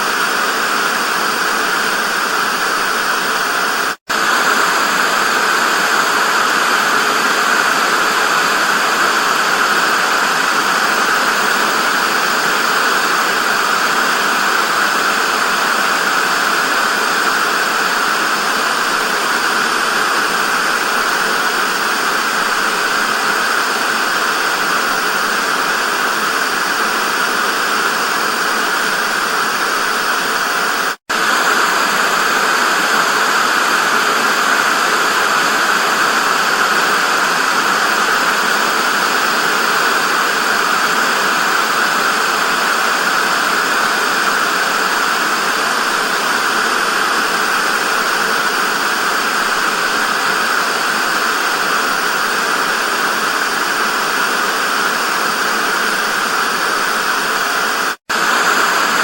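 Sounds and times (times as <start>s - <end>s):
tv static hiss: 0.0s - 59.0s.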